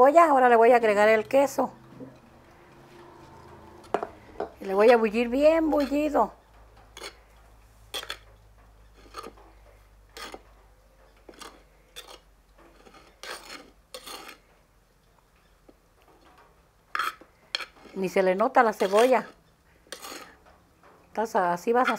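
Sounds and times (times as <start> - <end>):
metal spoon scraping clay bowl: 0.0 - 10.5, 11.1 - 14.5, 16.9 - 20.4, 21.7 - 21.9.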